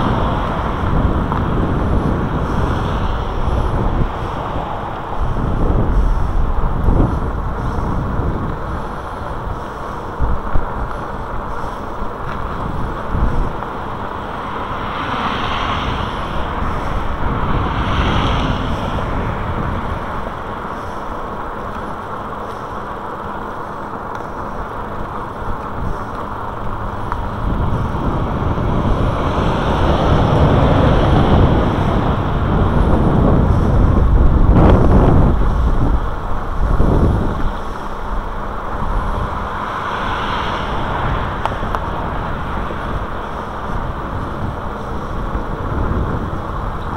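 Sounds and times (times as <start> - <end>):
road and traffic rumble: 0.0 - 46.9
wind rushing over microphone: 0.0 - 46.9.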